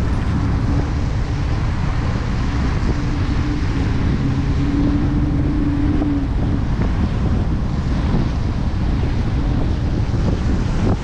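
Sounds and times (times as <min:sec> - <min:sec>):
car engine running: 0:00.0 - 0:11.0
tyre noise on wet road: 0:00.0 - 0:11.0
wind noise: 0:00.0 - 0:11.0.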